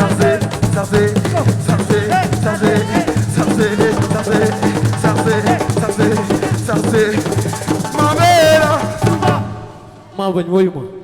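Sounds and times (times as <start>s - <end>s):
drums and shaken percussion: 0.0s - 10.1s.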